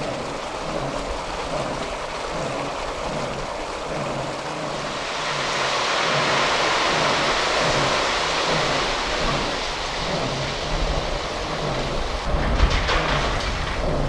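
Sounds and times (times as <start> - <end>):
faint low pulsing: 0.0 - 14.0
low rumbling thumps: 0.0 - 14.0
water gushing from a hose: 0.0 - 14.0.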